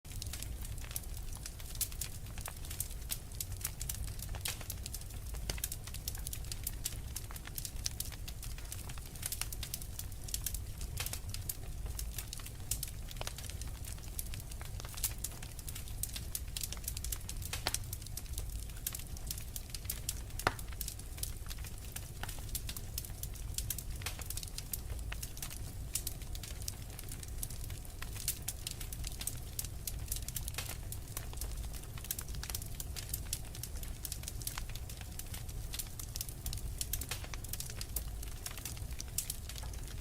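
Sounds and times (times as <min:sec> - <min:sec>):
low fire rumble: 0:00.1 - 0:40.0
wood fire crackling and popping: 0:00.1 - 0:40.0.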